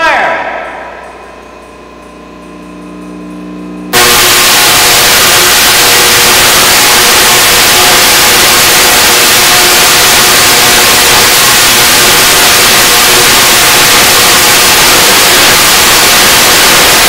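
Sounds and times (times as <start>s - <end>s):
tesla coil low hum: 0.3s - 17.0s
tesla coil buzzing crackle: 0.6s - 17.0s.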